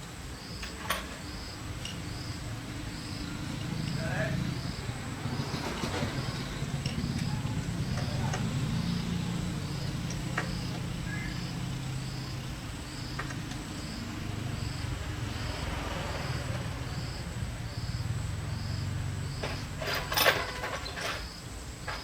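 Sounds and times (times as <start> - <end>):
small engine humming: 0.0 - 22.0.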